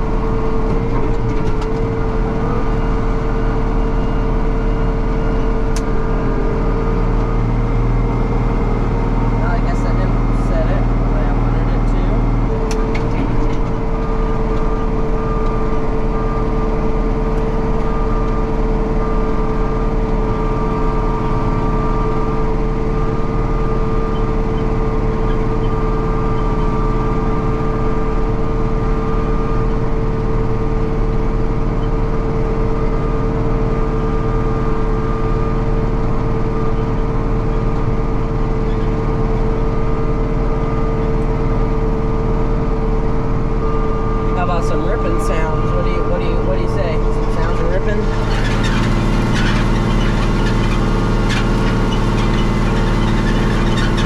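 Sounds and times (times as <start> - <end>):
harvester engine drone: 0.0 - 54.0.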